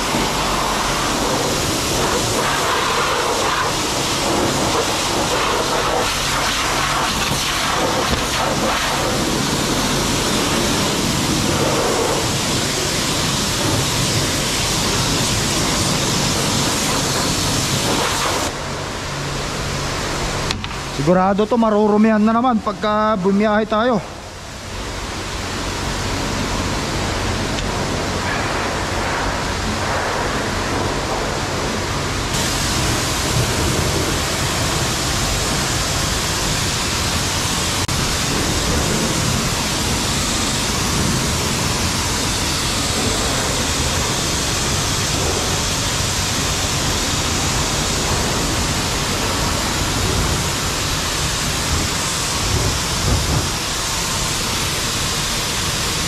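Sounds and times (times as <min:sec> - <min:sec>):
high-pressure water spraying: 0:00.0 - 0:56.0.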